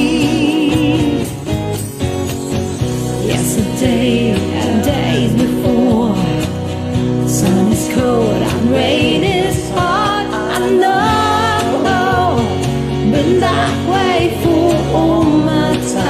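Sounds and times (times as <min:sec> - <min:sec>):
person singing with vibrato: 0:00.0 - 0:01.8, 0:03.0 - 0:16.0
backing track with steady beat: 0:00.0 - 0:16.0.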